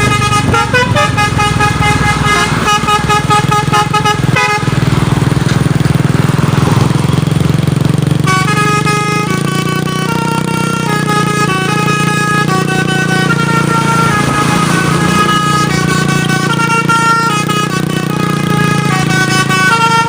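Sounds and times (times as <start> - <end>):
air horn playing a tune: 0.0 - 6.9, 7.8 - 20.0
truck engine rumble: 0.0 - 20.0.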